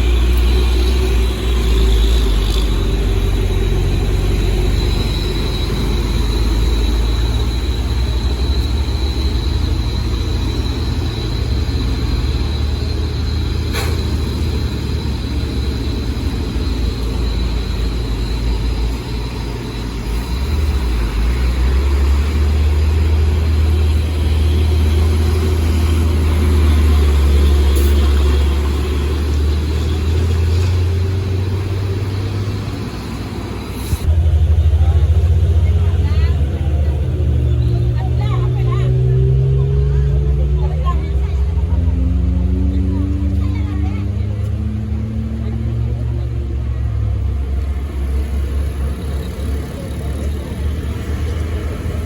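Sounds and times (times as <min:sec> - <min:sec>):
truck engines rumbling: 0:00.0 - 0:52.0.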